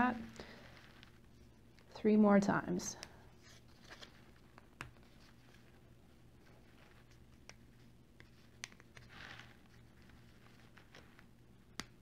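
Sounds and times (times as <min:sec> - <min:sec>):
soft paper rustle: 0:00.4 - 0:01.9, 0:03.0 - 0:11.5.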